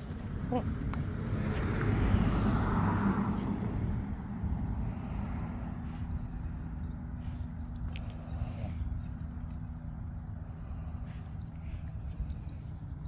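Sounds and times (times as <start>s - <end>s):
car passing: 0.0s - 13.0s
steady low rumble: 0.0s - 13.0s.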